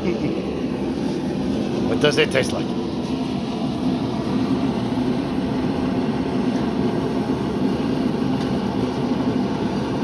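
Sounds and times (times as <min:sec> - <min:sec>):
gas forge roaring: 0:00.0 - 0:10.0.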